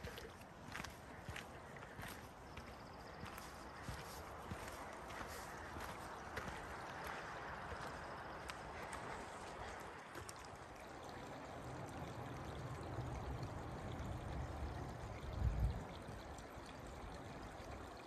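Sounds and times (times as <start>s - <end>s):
creek babbling over rocks: 0.0s - 18.0s.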